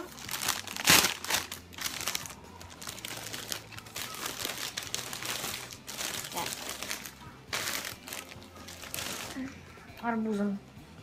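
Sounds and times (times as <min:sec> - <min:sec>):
plastic bag and wrapping rustling: 0:00.0 - 0:09.6.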